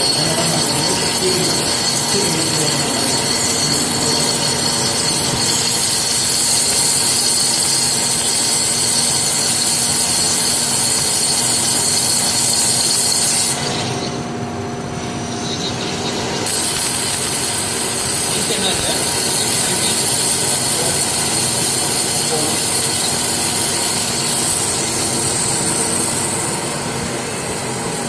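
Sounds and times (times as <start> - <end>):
high whine: 0.0 - 10.4, 11.0 - 28.0
machine hiss: 0.0 - 14.2, 15.0 - 28.0
machine hum: 0.0 - 28.0.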